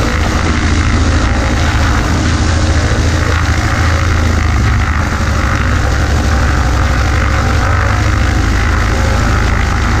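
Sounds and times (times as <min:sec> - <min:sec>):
light aircraft engine drone: 0:00.0 - 0:10.0.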